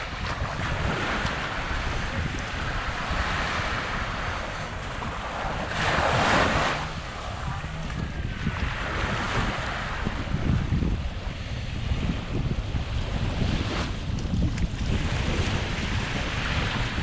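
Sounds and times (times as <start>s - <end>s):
small waves breaking on beach: 0.0s - 17.0s
wind buffeting microphone: 0.0s - 17.0s.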